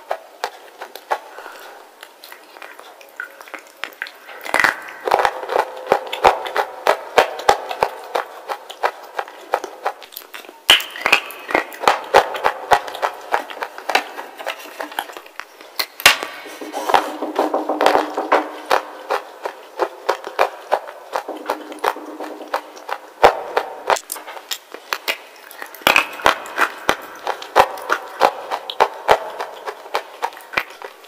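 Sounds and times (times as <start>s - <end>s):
crunching and chewing: 0.0s - 31.0s.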